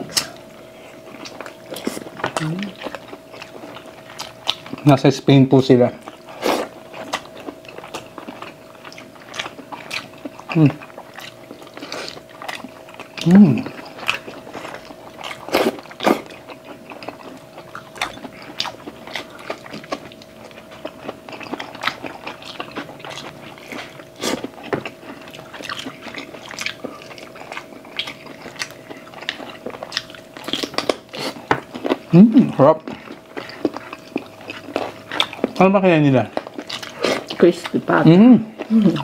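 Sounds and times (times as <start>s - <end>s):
faint steady hum: 0.0s - 39.0s
chewing and mouth smacks: 0.1s - 4.9s, 6.0s - 37.9s.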